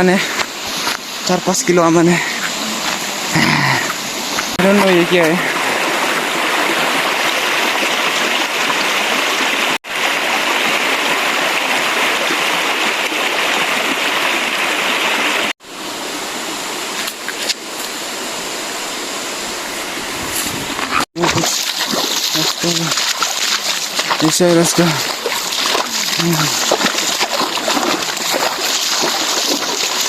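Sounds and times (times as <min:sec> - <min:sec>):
rushing stream water: 0:00.0 - 0:30.0.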